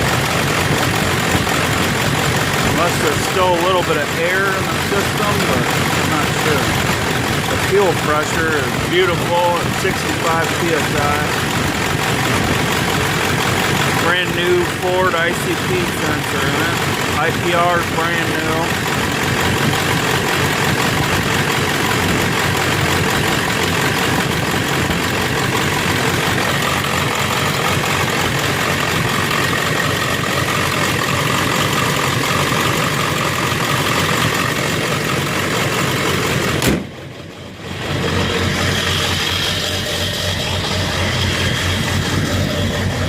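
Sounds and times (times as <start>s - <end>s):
diesel engine idling roughly: 0.0s - 43.0s.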